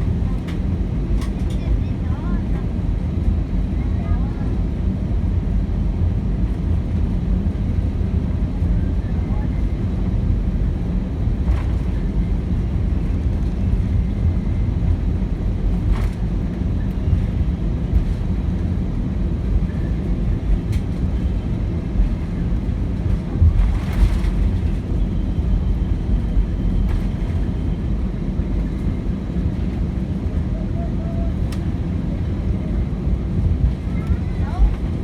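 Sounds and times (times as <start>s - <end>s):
aircraft engines idling rumble: 0.0s - 35.0s.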